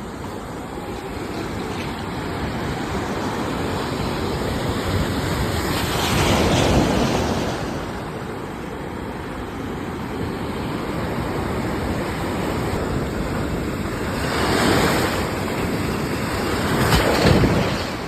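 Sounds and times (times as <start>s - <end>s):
sea waves washing on shore: 0.0s - 18.0s.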